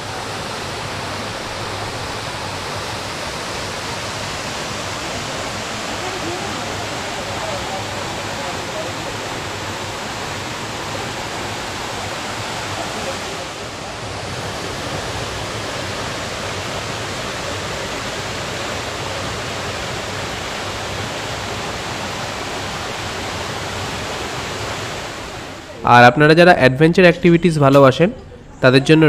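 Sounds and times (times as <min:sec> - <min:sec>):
waterfall roaring: 0:00.0 - 0:25.9.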